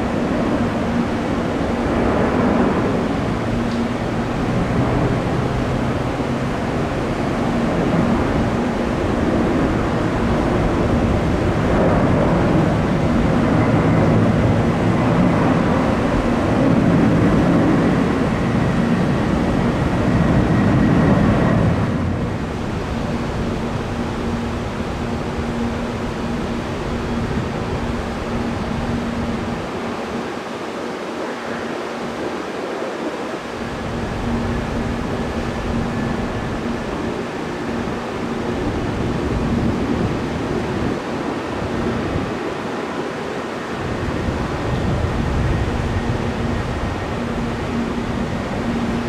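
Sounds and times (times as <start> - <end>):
high jet engine whine: 0.0 - 49.0
jet engines rushing: 0.0 - 49.0.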